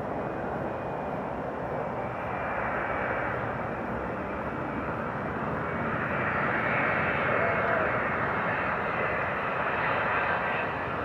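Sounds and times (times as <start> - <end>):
jet airliner rush with high whine: 0.0 - 11.0.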